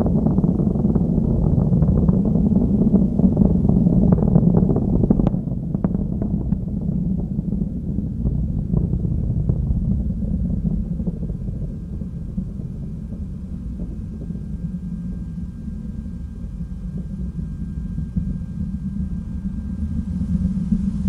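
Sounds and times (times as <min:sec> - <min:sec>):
distant rocket engine rumble: 0:00.0 - 0:21.0.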